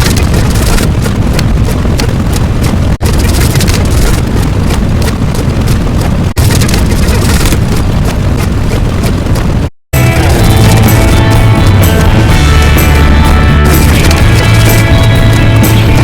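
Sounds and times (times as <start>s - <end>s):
loud dense rumbling: 0.0s - 16.0s.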